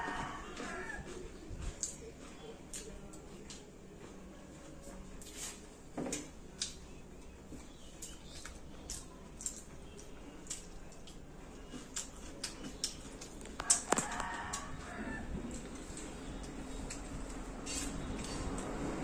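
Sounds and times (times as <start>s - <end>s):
chewing: 0.0s - 18.7s.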